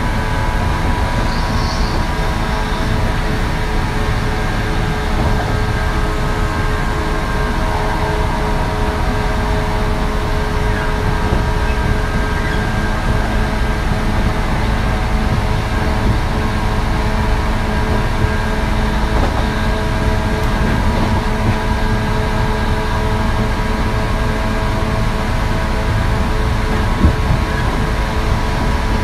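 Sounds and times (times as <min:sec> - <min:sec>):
electric train motors whining: 0:00.0 - 0:29.0
wheels rumbling on rails: 0:00.0 - 0:29.0.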